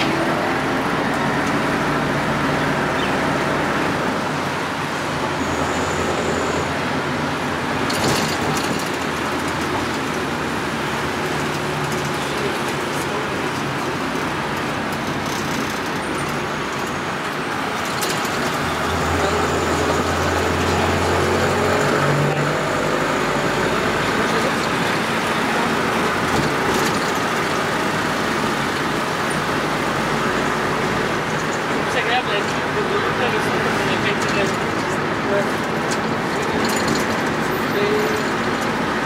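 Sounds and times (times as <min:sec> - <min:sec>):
engine and road noise: 0:00.0 - 0:39.0
motorbike traffic: 0:00.0 - 0:39.0.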